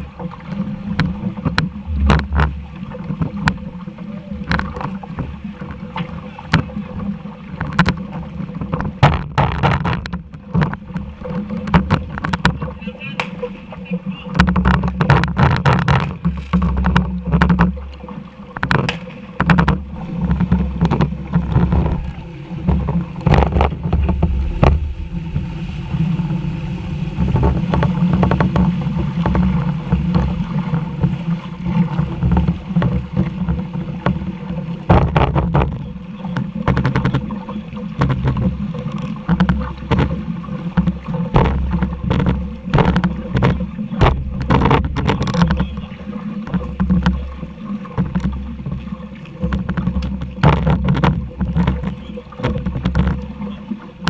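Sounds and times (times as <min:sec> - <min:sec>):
boat low rumble: 0:00.0 - 0:54.0
water knocks and splashes: 0:00.0 - 0:54.0.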